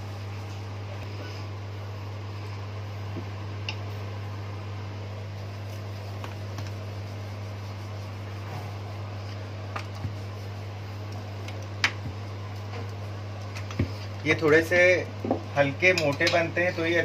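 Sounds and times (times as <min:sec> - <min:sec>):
low mechanical hum with hiss: 0:00.0 - 0:17.0.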